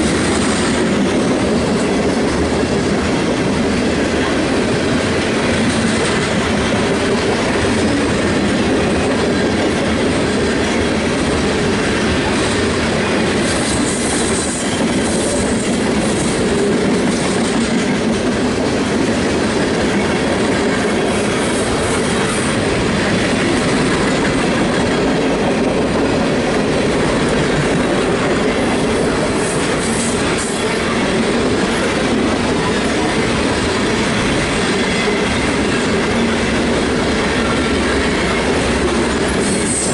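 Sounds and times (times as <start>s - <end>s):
train wheels clattering over rails: 0.0s - 39.9s.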